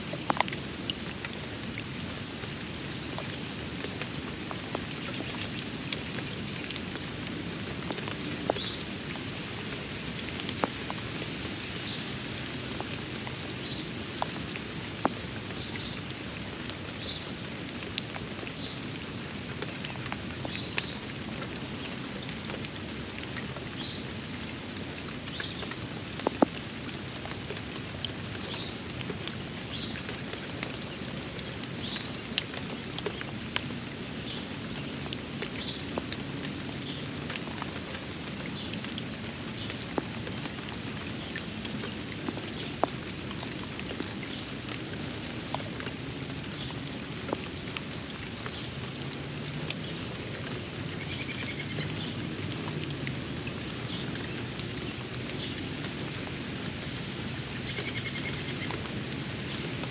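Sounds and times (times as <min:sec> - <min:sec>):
drops and drips striking: 0:00.0 - 0:56.4
rain falling on pond: 0:00.0 - 0:59.9.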